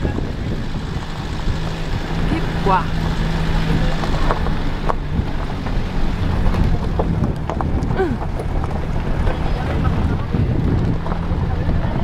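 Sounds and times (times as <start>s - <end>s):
vehicle engine droning: 0.0s - 12.0s
wind buffeting microphone: 0.0s - 12.0s.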